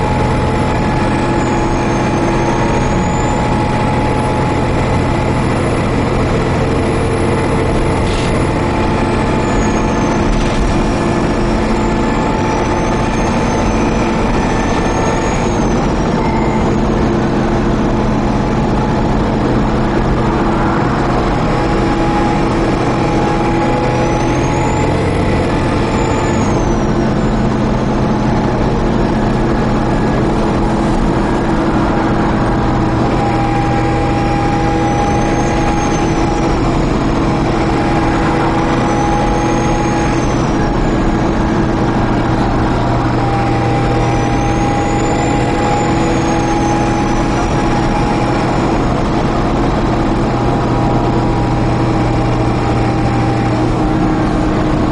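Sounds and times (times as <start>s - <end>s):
bus engine drone: 0.0s - 54.9s
high drivetrain whine: 0.0s - 54.9s.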